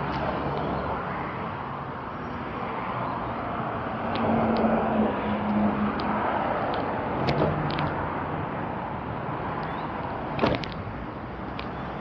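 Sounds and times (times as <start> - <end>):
faint hum of vehicles: 0.0 - 12.0.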